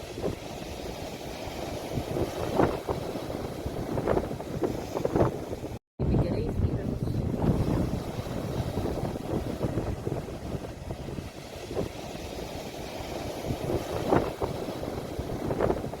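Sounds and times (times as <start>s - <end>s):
sea waves washing in: 0.0s - 16.0s
wind rumbling on microphone: 0.0s - 16.0s.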